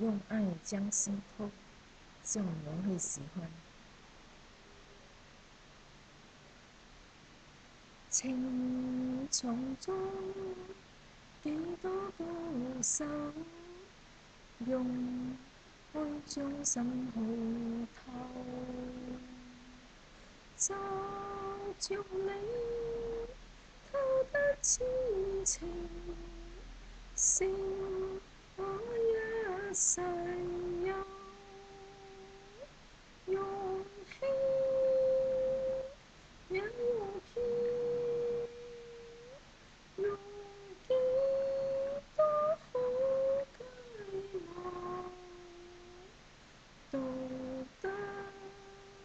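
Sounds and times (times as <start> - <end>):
woman singing unaccompanied: 0.0 - 1.6, 2.2 - 3.7, 8.1 - 14.0, 14.6 - 19.9, 20.6 - 46.2, 46.9 - 49.0.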